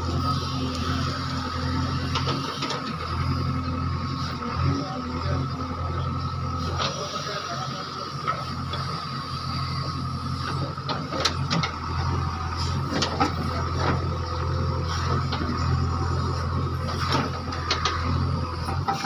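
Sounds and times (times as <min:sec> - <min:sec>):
diesel digger engine running: 0:00.0 - 0:19.0.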